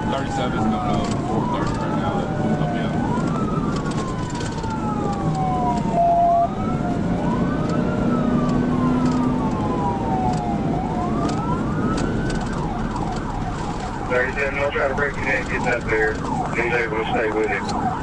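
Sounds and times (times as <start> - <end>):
police siren wailing: 0.0 - 18.0
road and engine noise: 0.0 - 18.0.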